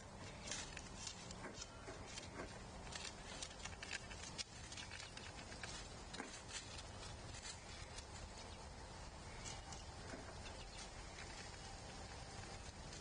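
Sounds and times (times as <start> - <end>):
birds pecking on feeder: 0.0 - 13.0
outdoor background noise: 0.0 - 13.0.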